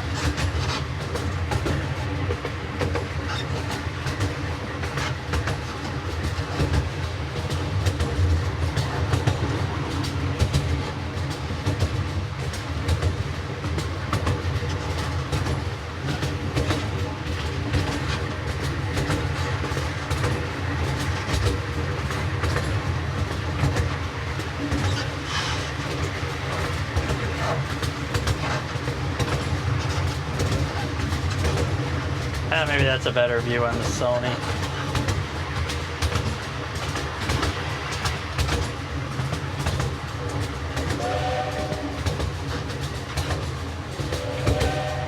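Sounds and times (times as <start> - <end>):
train low rumble: 0.0 - 45.0
wheels clicking on track: 0.0 - 45.0.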